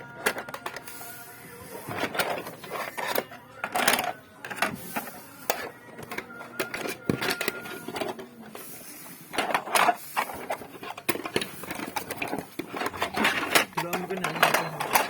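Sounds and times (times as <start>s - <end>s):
hard objects clattering: 0.0s - 15.0s.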